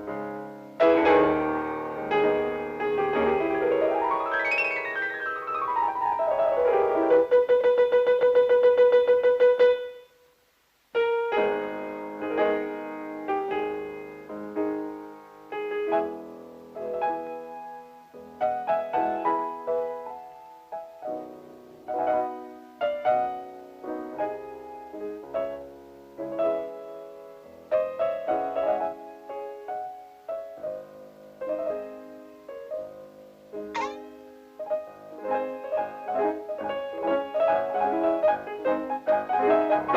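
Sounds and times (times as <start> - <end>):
fast piano notes: 0.0 - 10.0, 11.0 - 39.9.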